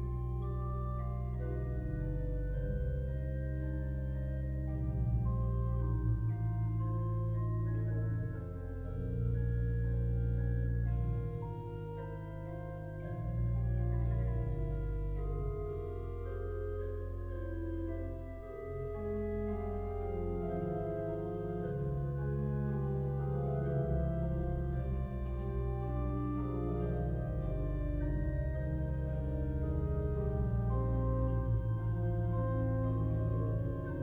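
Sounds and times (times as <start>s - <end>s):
organ playing: 0.0s - 34.0s.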